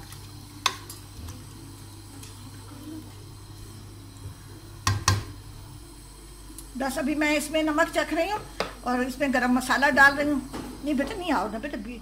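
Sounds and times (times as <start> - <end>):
rice simmering in a pot: 0.0 - 11.5
steady low hum: 0.0 - 12.0.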